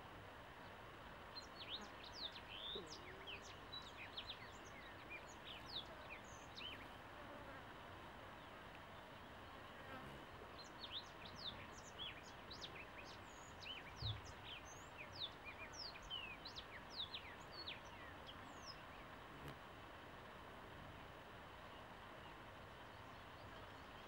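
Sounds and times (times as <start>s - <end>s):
small birds chirping: 0.6s - 7.5s, 8.3s - 19.6s, 21.4s - 24.0s.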